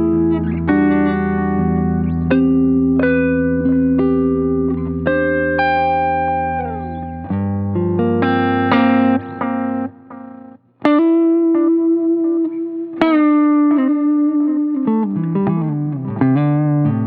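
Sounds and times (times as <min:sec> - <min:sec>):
electric guitar with delay: 0:00.0 - 0:17.0.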